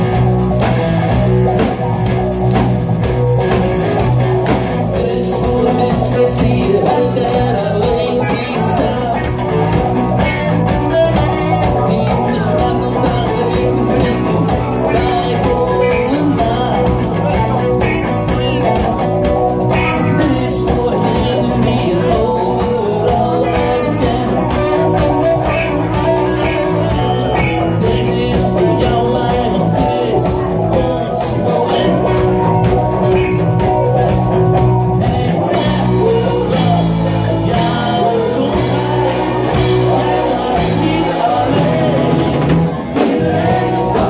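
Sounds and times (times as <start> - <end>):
rock band playing live: 0.0 - 44.0
man singing: 4.4 - 44.0.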